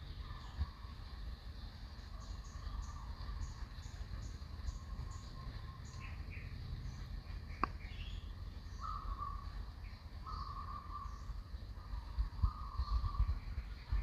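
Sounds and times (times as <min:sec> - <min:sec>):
bird chirps: 0:00.0 - 0:14.0
buzzy calls: 0:02.2 - 0:13.4.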